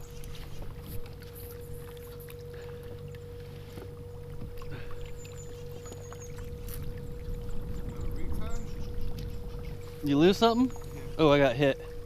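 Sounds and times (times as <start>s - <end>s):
faint water splashing: 0.0s - 12.0s
small boat motor running: 0.0s - 12.0s.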